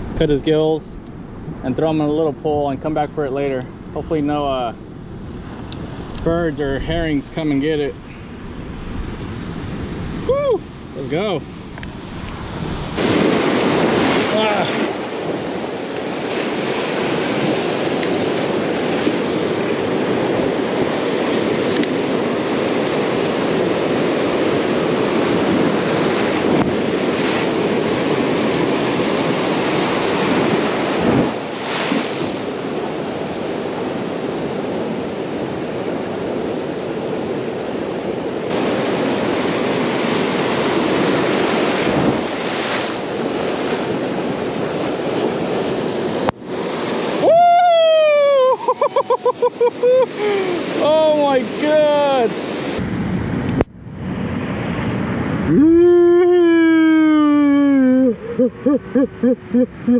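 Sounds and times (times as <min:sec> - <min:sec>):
ocean surf over rocks: 0:00.0 - 0:59.9.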